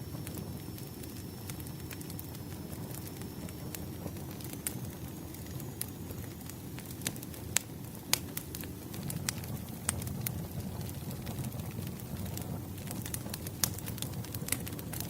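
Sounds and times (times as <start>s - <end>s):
low rush of burning logs: 0.0s - 15.0s
wood fire crackling: 0.0s - 15.0s.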